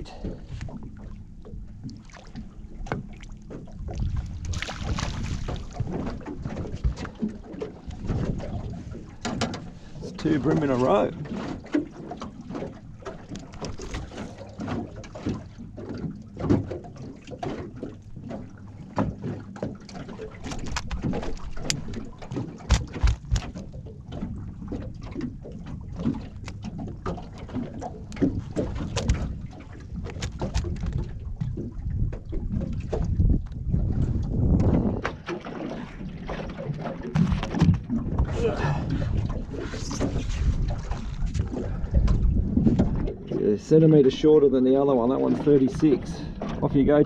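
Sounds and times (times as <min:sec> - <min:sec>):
knocks and rattles of fishing gear: 0:02.4 - 0:43.4.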